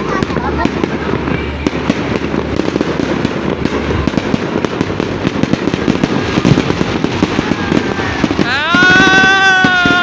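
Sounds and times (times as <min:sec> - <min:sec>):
fireworks crackling: 0:00.0 - 0:10.0.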